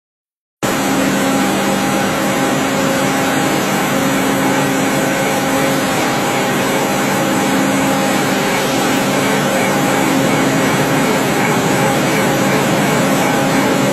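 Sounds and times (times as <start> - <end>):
lathe machine hum: 0.6 - 13.9.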